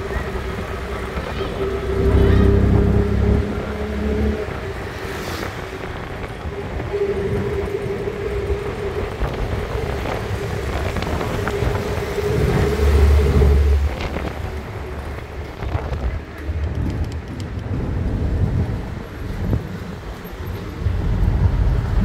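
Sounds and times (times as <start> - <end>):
engine hum inside vehicle: 0.0 - 18.2.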